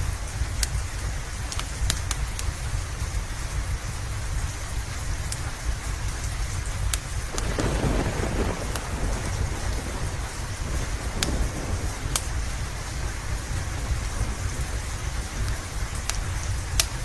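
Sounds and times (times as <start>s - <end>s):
heavy rain: 0.0s - 17.0s
thunder rumbling: 0.0s - 17.0s
wood fire crackling: 0.0s - 17.0s.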